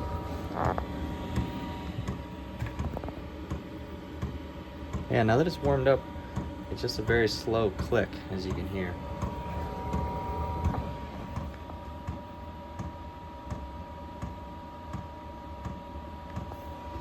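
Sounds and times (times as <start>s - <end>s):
heater fan hum: 0.0s - 17.0s
thin steady whine: 0.0s - 17.0s.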